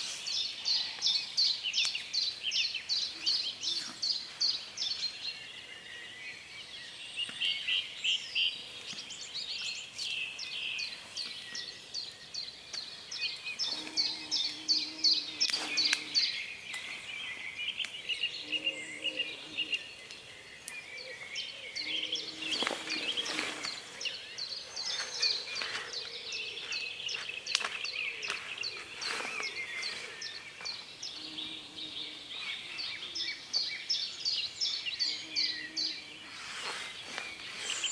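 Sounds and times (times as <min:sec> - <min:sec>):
songbirds singing: 0:00.0 - 0:37.9.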